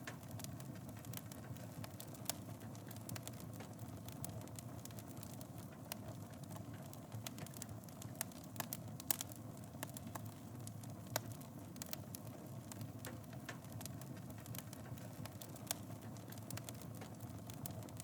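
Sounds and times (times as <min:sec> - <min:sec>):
fire crackling and popping: 0:00.0 - 0:18.0
wood fire flames rumbling: 0:00.0 - 0:18.0.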